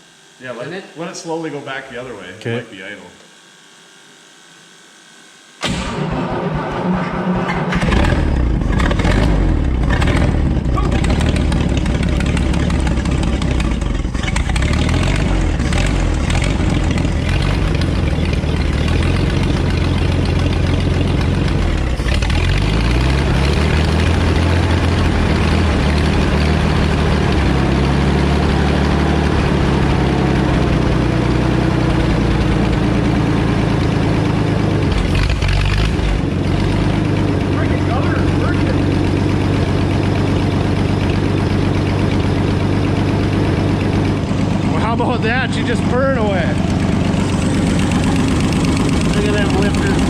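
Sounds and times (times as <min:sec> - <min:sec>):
tractor engine idling: 0:05.6 - 0:50.0.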